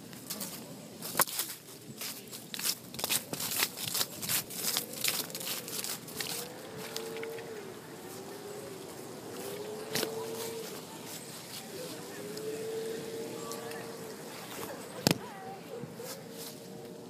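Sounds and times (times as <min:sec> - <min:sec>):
dry leaves crunching: 0:00.0 - 0:17.0.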